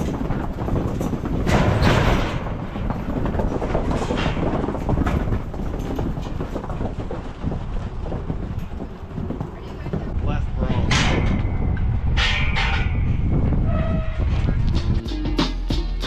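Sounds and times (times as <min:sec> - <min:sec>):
moving vehicle rumble and rattle: 0:00.0 - 0:15.7.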